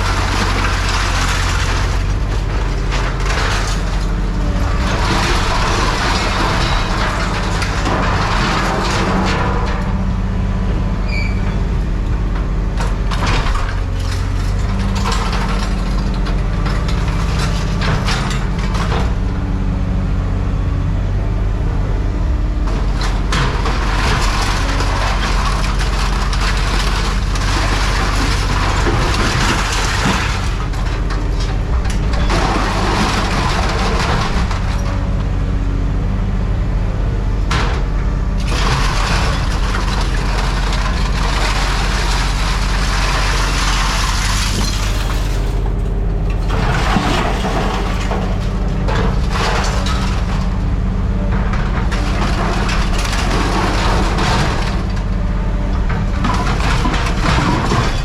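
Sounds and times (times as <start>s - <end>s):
heavy engine running: 0.0s - 58.0s.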